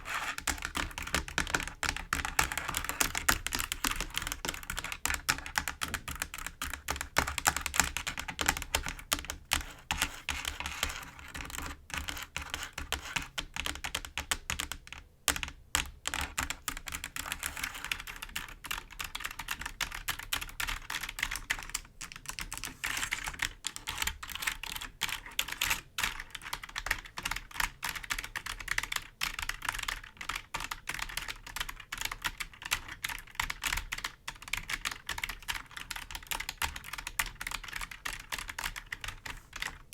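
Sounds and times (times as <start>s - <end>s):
clicky keyboard keys tapping: 0.3s - 39.9s.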